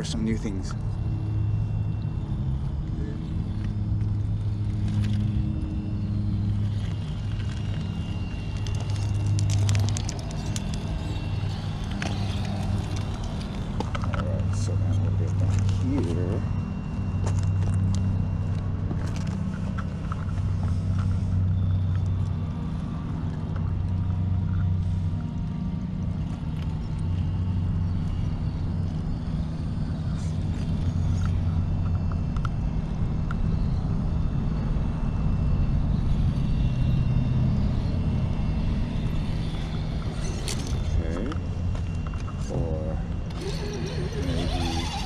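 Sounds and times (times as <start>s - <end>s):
toy car motor rumbling: 2.2s - 32.6s, 37.7s - 45.0s.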